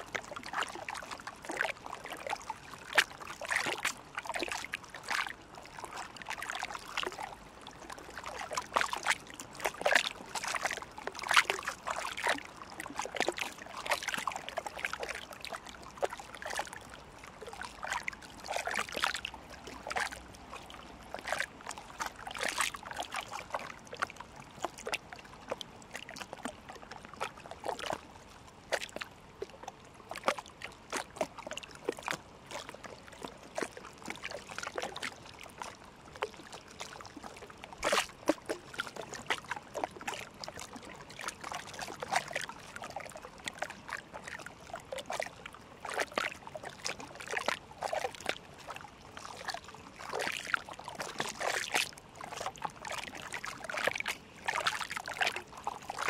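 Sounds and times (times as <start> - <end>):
small splashes and drips: 0.0 - 56.0
water lapping and trickling: 0.0 - 56.0.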